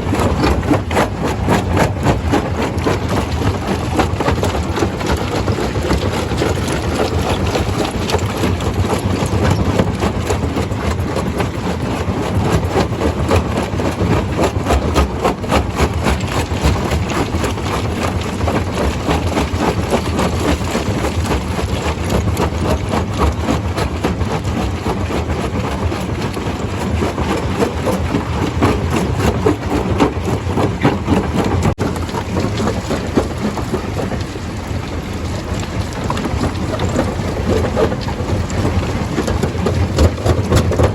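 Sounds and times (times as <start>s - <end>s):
machinery rumbling: 0.0s - 40.9s.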